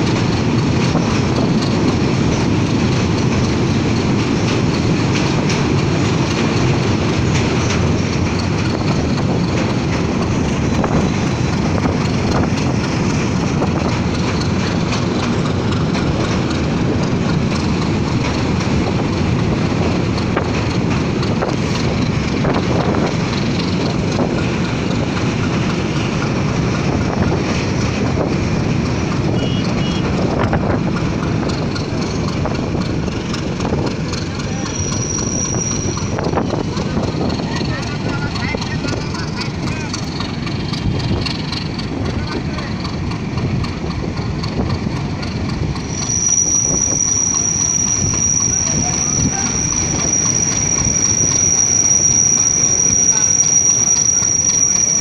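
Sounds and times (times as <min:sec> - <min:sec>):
train wheels on track: 0:00.0 - 0:55.0.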